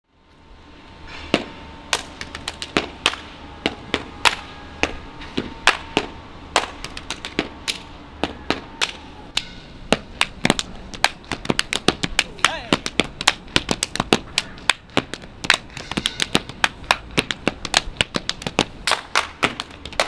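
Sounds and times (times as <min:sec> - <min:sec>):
body percussion claps and slaps: 0:01.9 - 0:05.0, 0:05.6 - 0:20.0.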